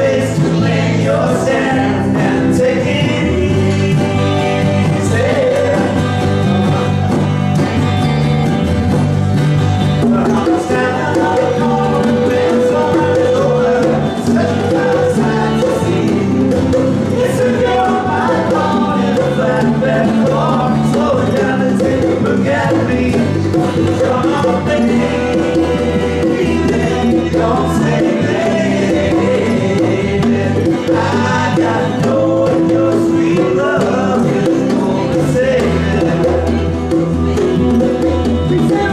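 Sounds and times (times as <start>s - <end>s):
person singing: 0.0s - 8.1s, 10.0s - 38.9s
small band playing: 0.0s - 38.9s.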